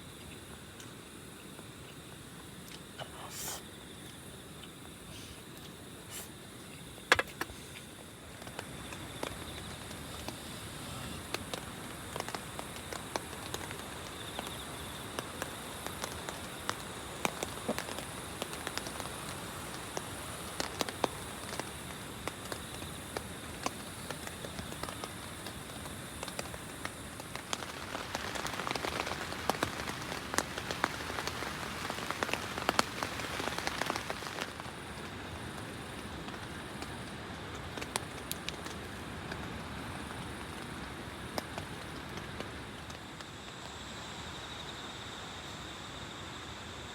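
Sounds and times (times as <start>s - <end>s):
rain drops ticking: 0.0s - 44.4s.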